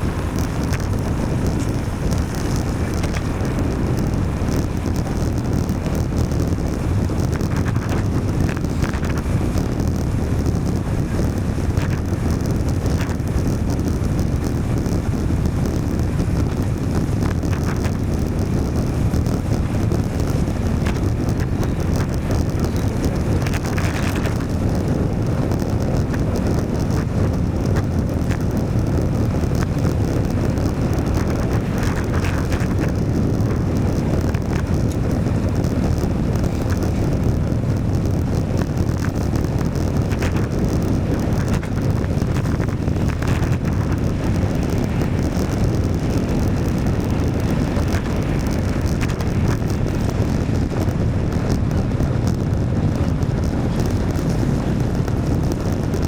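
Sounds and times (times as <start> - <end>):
road and traffic noise: 0.0 - 56.0
wind on microphone: 0.0 - 56.0.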